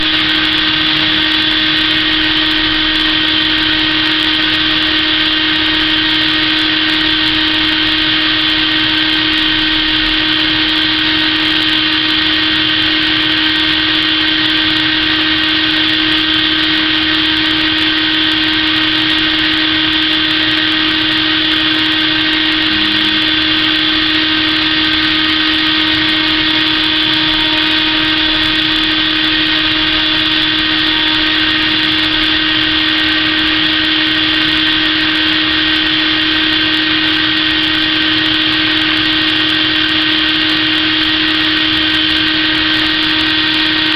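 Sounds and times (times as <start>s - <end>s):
spindle motor whining: 0.0s - 43.9s.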